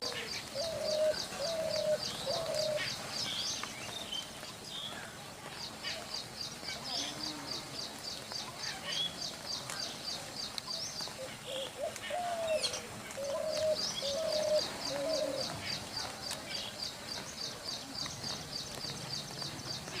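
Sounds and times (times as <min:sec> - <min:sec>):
lower held bird calls: 0:00.0 - 0:20.0.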